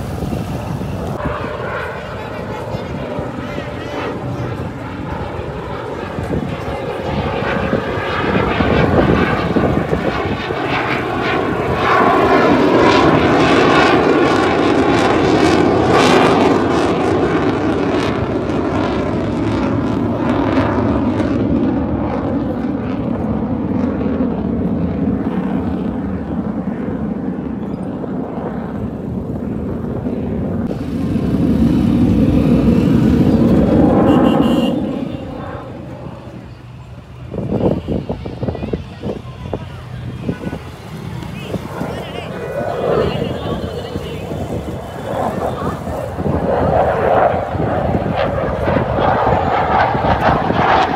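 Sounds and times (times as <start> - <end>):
jet engine roar: 0.0 - 50.9.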